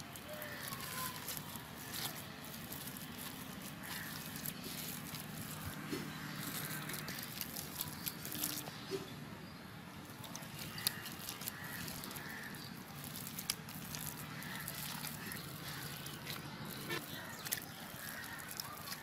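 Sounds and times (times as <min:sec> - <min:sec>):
wet squelching of fruit pulp: 0:00.0 - 0:09.1, 0:09.9 - 0:19.0.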